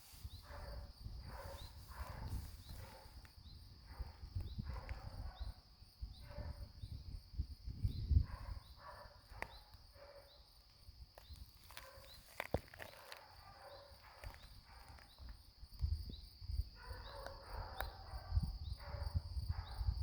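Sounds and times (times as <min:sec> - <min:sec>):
insect chirps: 0:00.0 - 0:20.0
insect trill: 0:00.0 - 0:20.0.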